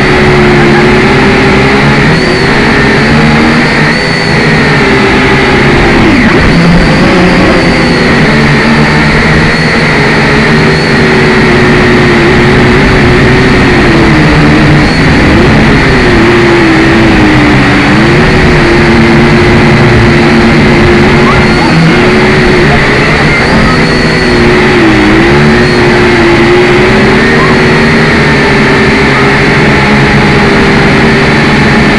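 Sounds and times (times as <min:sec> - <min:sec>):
drone motors whining: 0:00.0 - 0:31.9.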